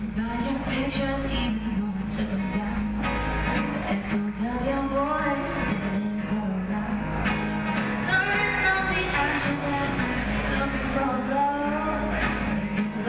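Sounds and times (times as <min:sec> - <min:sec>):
woman singing: 0:00.0 - 0:07.2, 0:07.8 - 0:13.0
acoustic guitar: 0:00.0 - 0:13.0.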